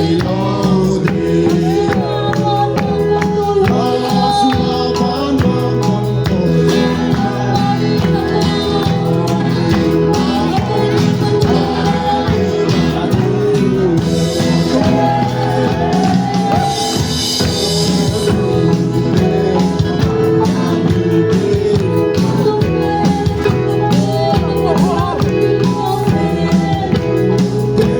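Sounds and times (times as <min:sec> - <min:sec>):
instrumental accompaniment: 0:00.0 - 0:27.9
person singing: 0:00.0 - 0:27.9.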